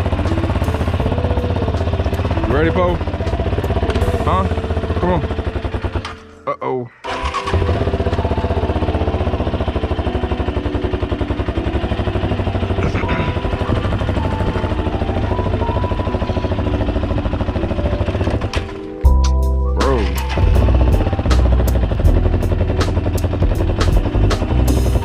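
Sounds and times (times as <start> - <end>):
loud low hum: 0.0 - 6.4, 7.1 - 25.0
engine running with fast pulsing: 0.0 - 25.0.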